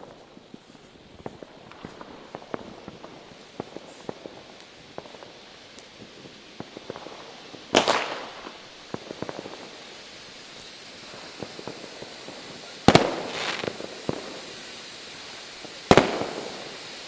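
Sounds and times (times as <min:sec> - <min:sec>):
firecrackers popping: 0:00.0 - 0:17.0.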